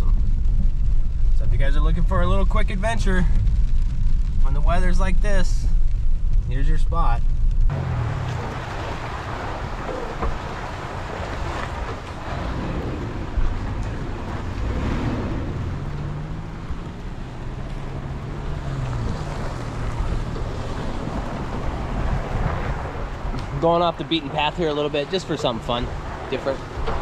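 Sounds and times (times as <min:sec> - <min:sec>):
suv engine running: 0:00.0 - 0:27.0
tyre and wind noise: 0:00.0 - 0:27.0.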